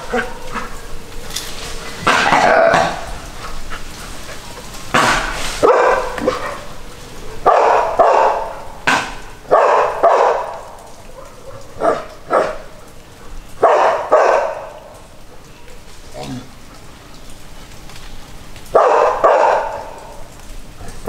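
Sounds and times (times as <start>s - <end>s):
dogs barking: 0.0s - 21.0s.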